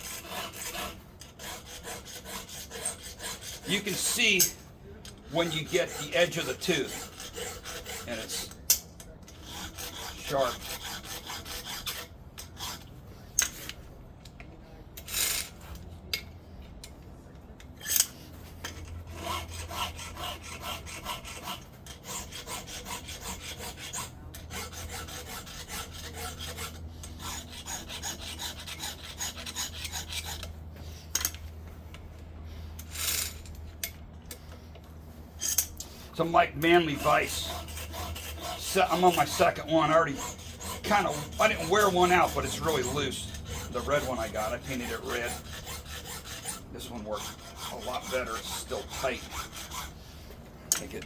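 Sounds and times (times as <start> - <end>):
file rasping on chainsaw chain: 0.0 - 13.8, 17.8 - 31.5, 32.6 - 51.0.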